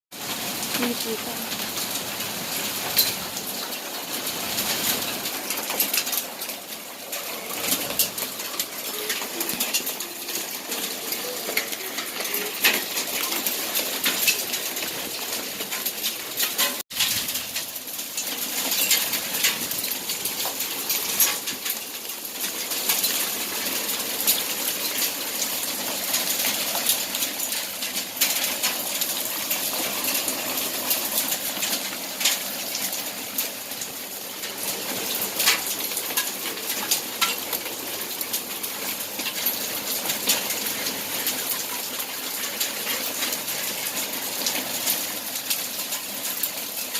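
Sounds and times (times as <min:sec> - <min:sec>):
falling hail and rain hiss: 0:00.1 - 0:46.9
hailstones clicking on hard surfaces: 0:00.2 - 0:46.9.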